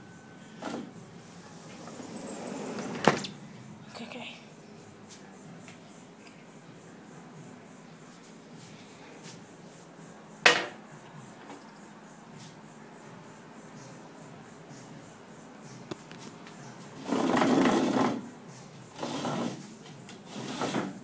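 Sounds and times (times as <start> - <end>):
room noise: 0.0 - 21.0.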